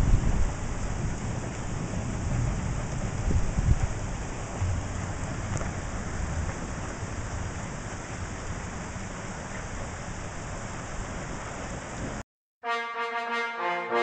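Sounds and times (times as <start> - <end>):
steady rain falling: 0.0 - 12.2
thunder rumble: 0.0 - 12.2.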